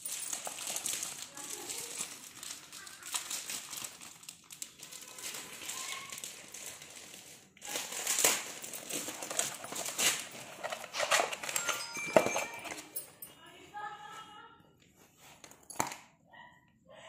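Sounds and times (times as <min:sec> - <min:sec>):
cardboard and paper rustling: 0:00.0 - 0:16.0.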